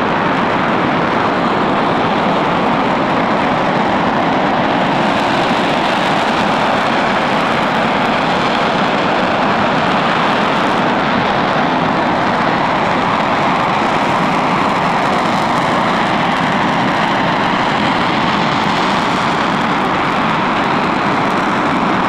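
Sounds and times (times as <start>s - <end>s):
rocket engine roaring: 0.0s - 22.0s.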